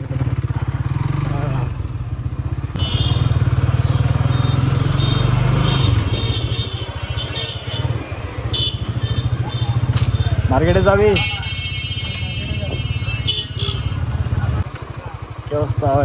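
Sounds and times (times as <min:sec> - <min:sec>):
motorcycle engine at low revs: 0:00.0 - 0:11.3, 0:12.1 - 0:16.0.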